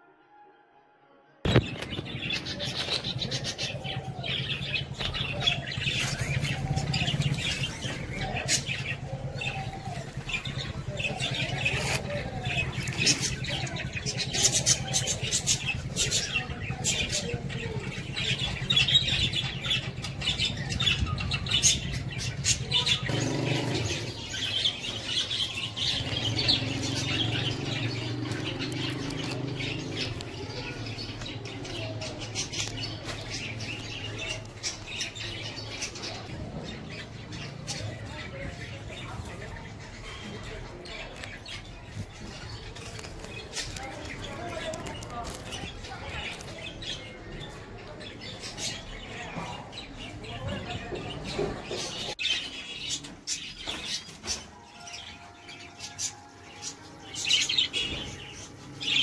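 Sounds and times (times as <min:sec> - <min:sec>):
cage birds chirping: 0:01.4 - 0:59.0.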